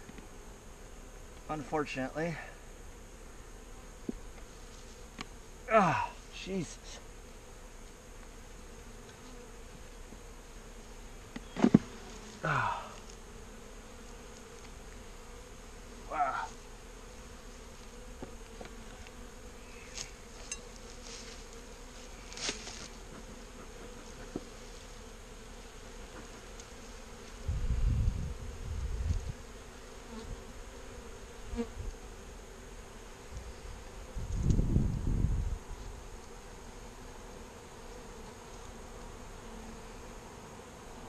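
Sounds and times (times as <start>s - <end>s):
bee buzzing past: 0.0s - 41.0s
bee colony humming: 0.0s - 41.0s.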